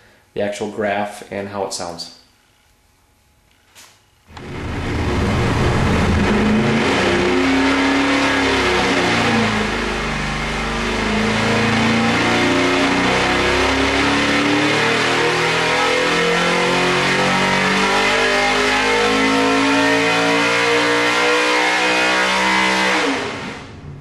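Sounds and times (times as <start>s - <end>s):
engine revving at full throttle: 4.3s - 24.0s.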